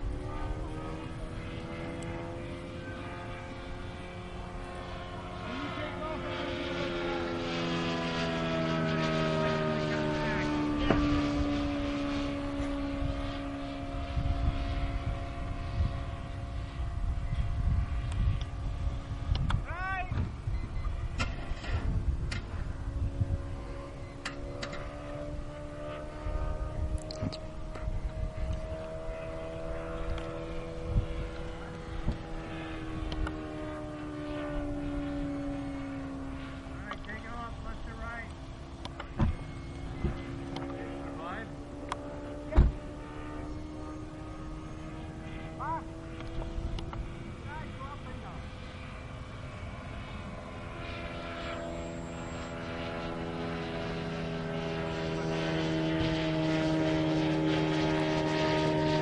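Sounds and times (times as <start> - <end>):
low microphone rumble: 0.0 - 49.4
model airplane engine drone: 0.0 - 59.0.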